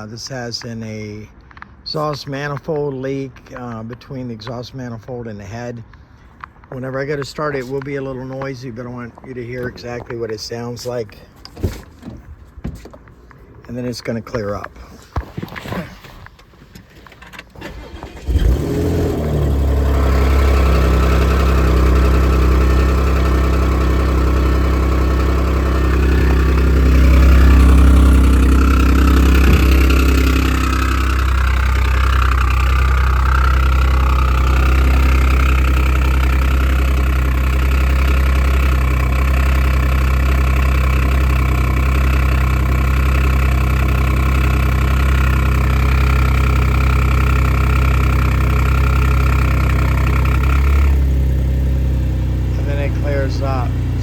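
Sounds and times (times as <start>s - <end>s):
car engine idling: 0.9s - 15.2s, 16.4s - 54.0s
car engine cranking and starting: 5.4s - 54.0s.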